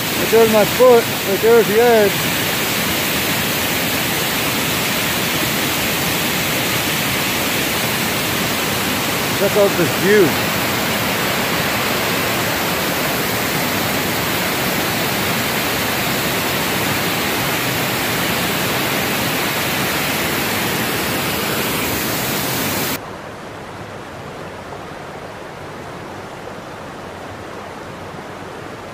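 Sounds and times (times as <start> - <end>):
waterfall roaring: 0.0 - 28.9.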